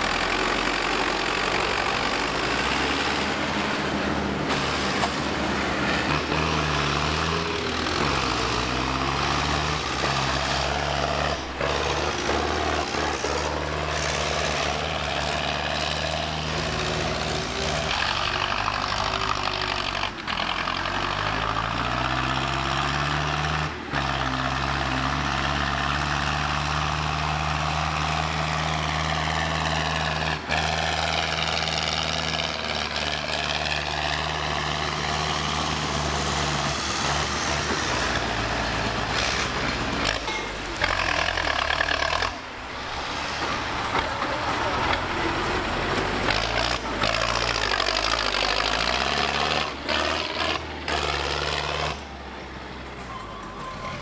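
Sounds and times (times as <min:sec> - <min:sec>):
tractor engines revving: 0:00.0 - 0:54.0.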